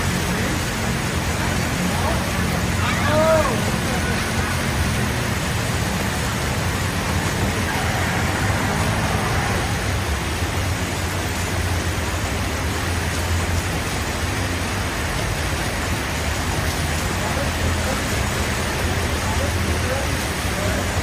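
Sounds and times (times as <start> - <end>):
vehicle engines running: 0.0 - 21.0.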